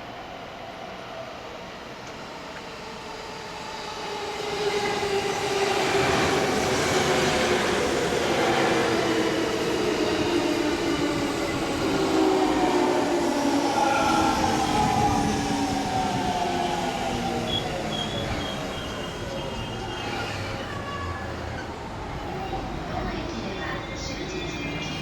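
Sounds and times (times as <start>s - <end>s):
electric train rumble and whine: 0.0s - 25.0s.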